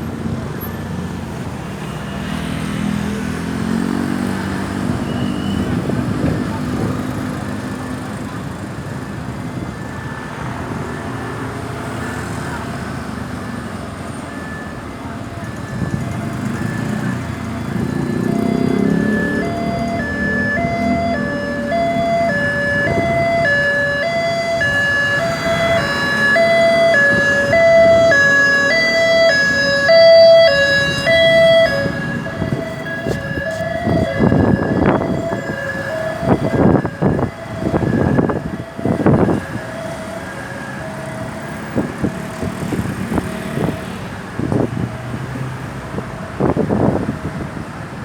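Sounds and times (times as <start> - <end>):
ambulance two-tone siren: 0.3 - 48.0.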